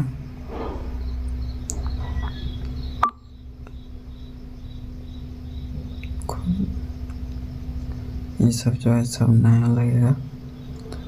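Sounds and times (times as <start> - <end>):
faint insect-like chirping: 0.0 - 11.0
steady low hum: 0.0 - 11.0.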